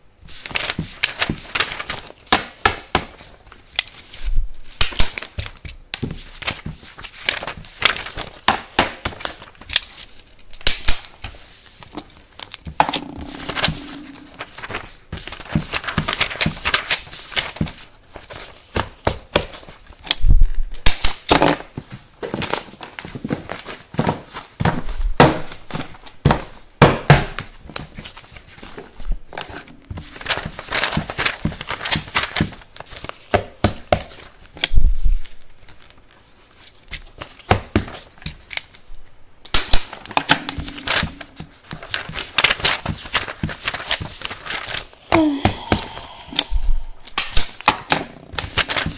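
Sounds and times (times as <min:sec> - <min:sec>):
paper rustling: 0:00.3 - 0:21.1, 0:27.6 - 0:45.0, 0:47.0 - 0:48.9.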